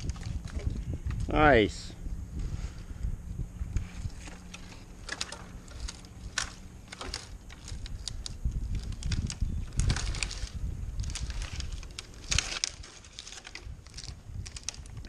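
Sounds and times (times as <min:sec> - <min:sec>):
climbing gear clicks and rattles: 0:00.0 - 0:01.5, 0:03.7 - 0:15.0
low rumble: 0:00.0 - 0:12.8.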